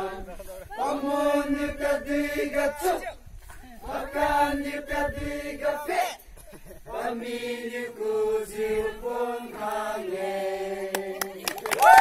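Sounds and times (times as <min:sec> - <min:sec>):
men chanting in unison: 0:00.0 - 0:11.3.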